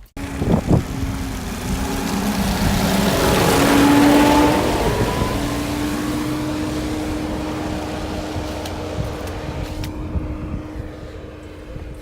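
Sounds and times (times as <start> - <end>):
motor vehicle passing: 0.2 - 12.0.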